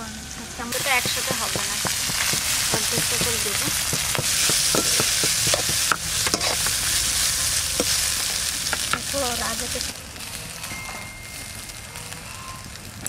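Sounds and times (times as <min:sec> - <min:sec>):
oil sizzling: 0:00.0 - 0:13.0
metal spoon scraping a pan: 0:00.7 - 0:13.0.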